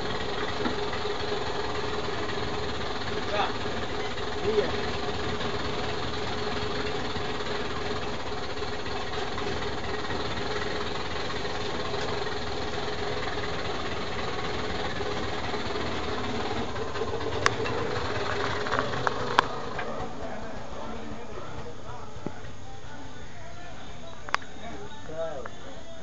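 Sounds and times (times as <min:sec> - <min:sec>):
mechanical engine hum: 0:00.0 - 0:26.0.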